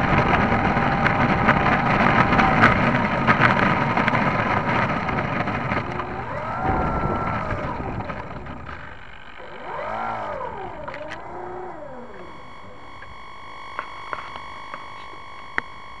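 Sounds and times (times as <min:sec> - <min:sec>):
high electronic whine: 0:00.0 - 0:16.0
model plane electric motor: 0:00.0 - 0:16.0.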